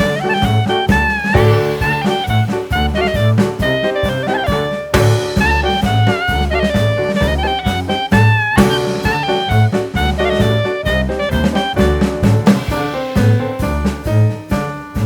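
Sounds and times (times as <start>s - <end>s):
upbeat swing jazz: 0.0s - 15.0s.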